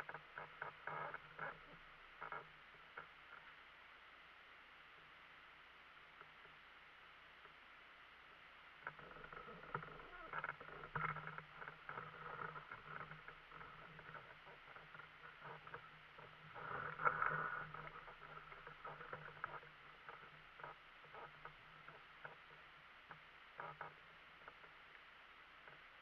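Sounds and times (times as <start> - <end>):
faint steady low hum: 0.0 - 26.0.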